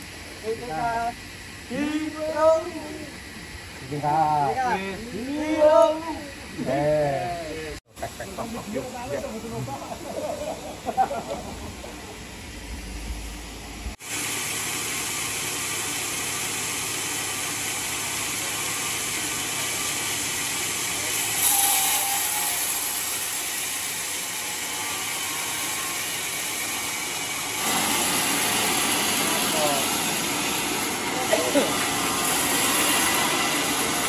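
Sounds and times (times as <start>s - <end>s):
band sawmill running: 0.0s - 34.0s.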